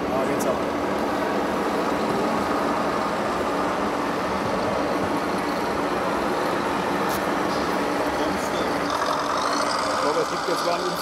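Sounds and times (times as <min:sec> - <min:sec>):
background hubbub: 0:00.0 - 0:11.0
simulated diesel engine running: 0:00.0 - 0:11.0.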